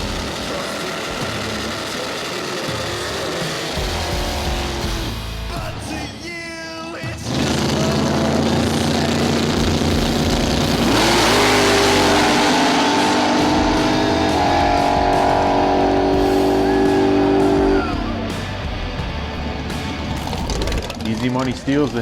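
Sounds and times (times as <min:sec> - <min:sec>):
racing car engines revving high: 0:00.0 - 0:05.5, 0:07.1 - 0:21.7
background music: 0:00.0 - 0:21.1.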